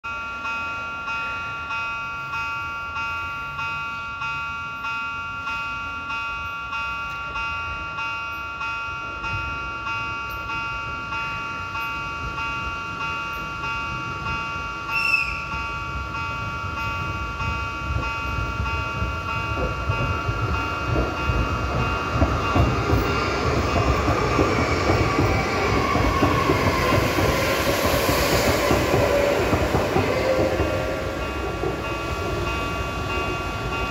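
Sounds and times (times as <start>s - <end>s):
passenger train passing: 0.2s - 33.9s.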